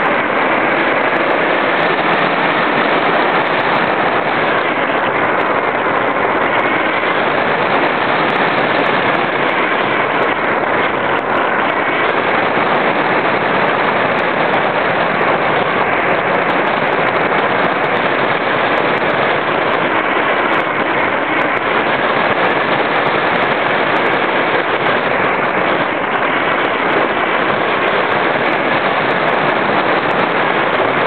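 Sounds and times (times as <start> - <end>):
loud rush of airflow: 0.0 - 31.0.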